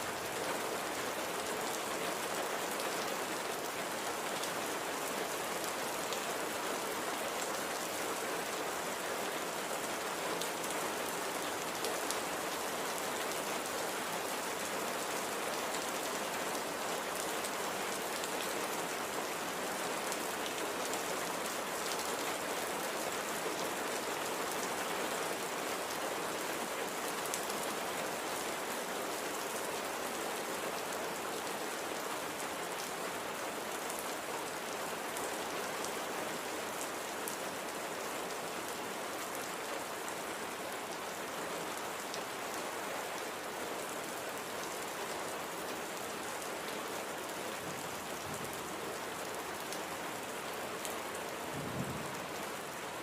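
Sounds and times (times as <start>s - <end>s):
gentle rain falling: 0.0s - 53.0s.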